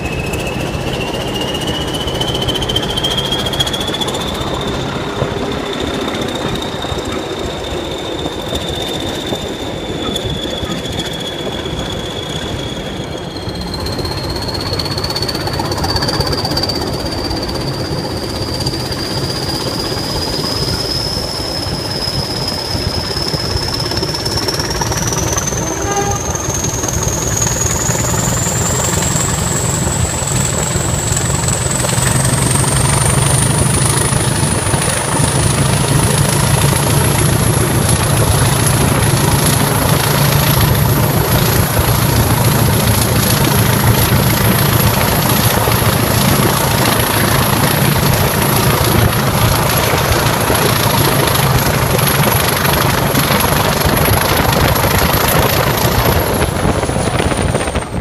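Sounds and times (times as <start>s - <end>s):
diesel locomotive engine drone: 0.0s - 58.0s
thin high whine: 0.0s - 58.0s
wind and running noise: 0.0s - 58.0s.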